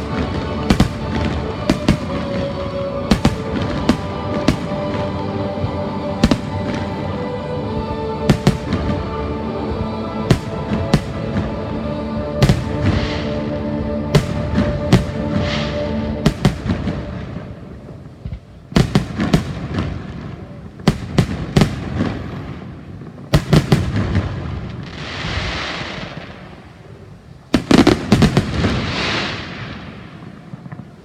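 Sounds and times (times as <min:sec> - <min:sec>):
hiss of burning fireworks: 0:00.0 - 0:07.0, 0:08.3 - 0:09.0, 0:10.3 - 0:11.5, 0:12.4 - 0:31.0.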